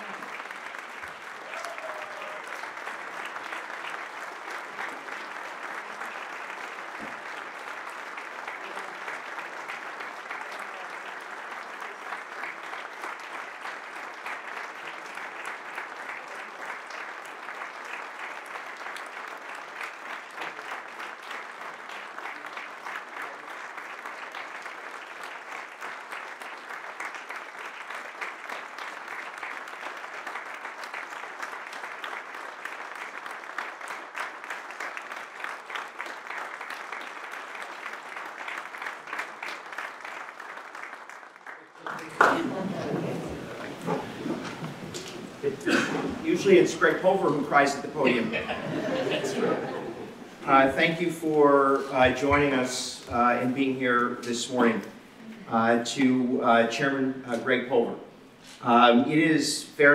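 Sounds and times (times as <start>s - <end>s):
audience applause: 0.0s - 57.5s.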